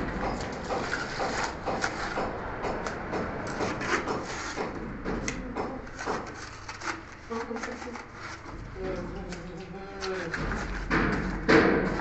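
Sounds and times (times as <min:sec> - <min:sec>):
irregular knocks taps and scraping: 0:00.0 - 0:12.0.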